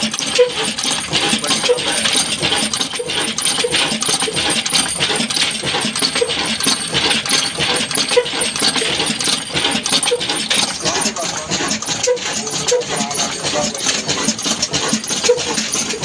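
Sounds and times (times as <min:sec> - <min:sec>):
diesel engine clattering: 0:00.0 - 0:16.0.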